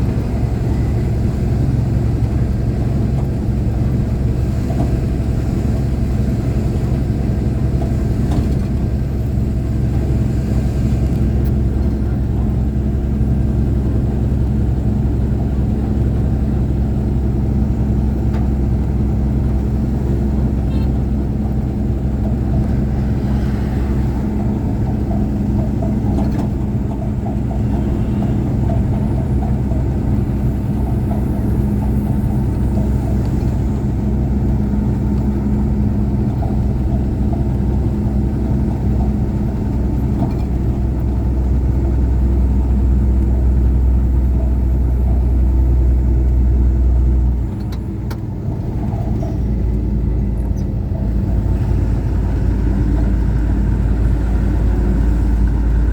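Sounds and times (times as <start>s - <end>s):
truck engine rumbling: 0.0s - 55.9s.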